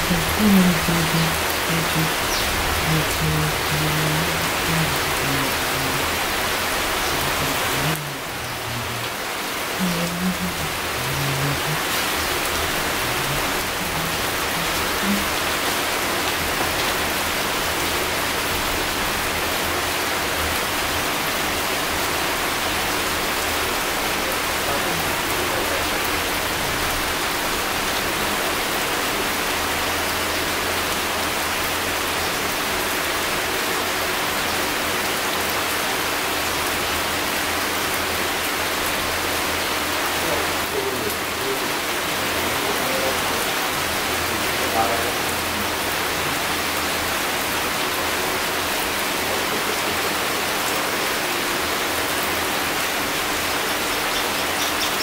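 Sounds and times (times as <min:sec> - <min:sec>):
rain falling on foliage: 0:00.0 - 0:55.0.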